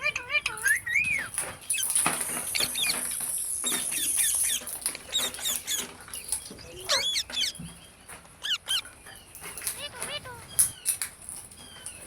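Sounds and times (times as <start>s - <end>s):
parrot chirping: 0.0s - 10.9s.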